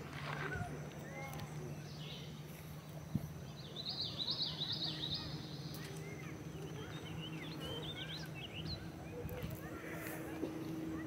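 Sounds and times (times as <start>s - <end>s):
songbirds singing: 0.5s - 11.0s.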